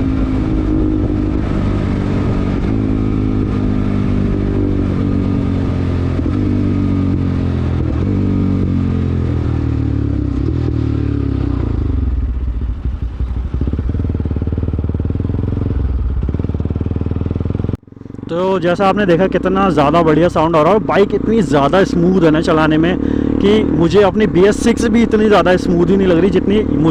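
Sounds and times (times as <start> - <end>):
loud motorcycle engine running: 0.0 - 26.9.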